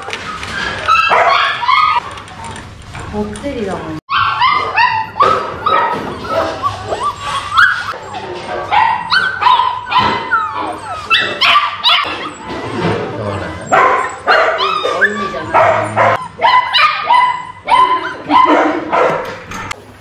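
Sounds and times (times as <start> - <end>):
puppies yipping and whining: 0.0 - 2.7, 4.1 - 18.9.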